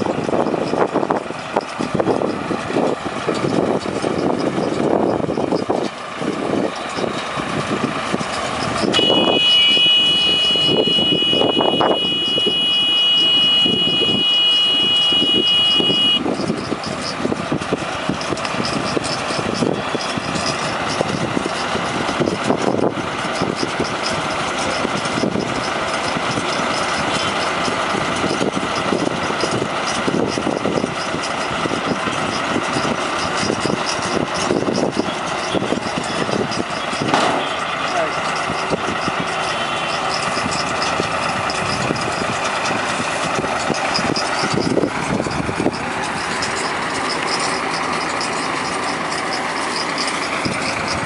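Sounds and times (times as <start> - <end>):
baler mechanical clatter: 0.0 - 51.0
tractor engine under load: 0.0 - 51.0.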